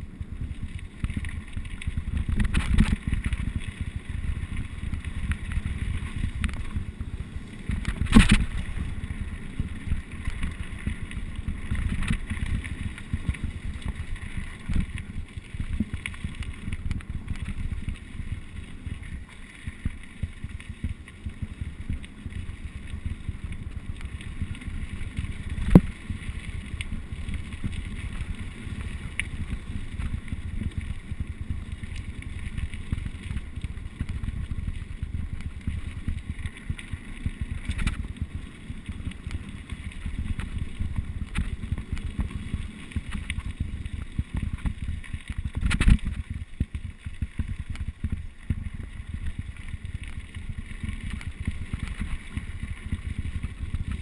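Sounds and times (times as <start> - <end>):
mountain bike rolling on rough ground: 0.0 - 54.0
wind noise on microphone: 0.0 - 54.0.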